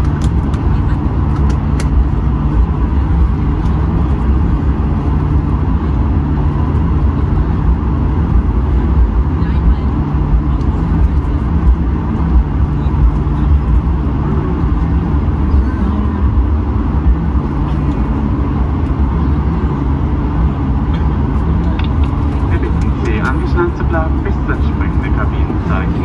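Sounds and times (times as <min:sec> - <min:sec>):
jet engine low hum: 0:00.0 - 0:26.0
wheels rumbling on tarmac: 0:00.0 - 0:26.0.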